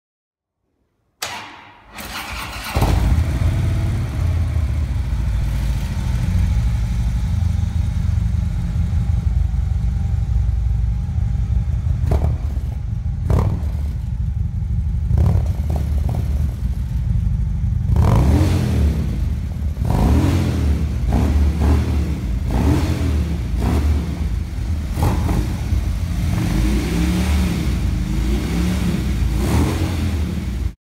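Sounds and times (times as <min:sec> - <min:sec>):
motorcycle engine idling and revving: 0:01.2 - 0:30.8.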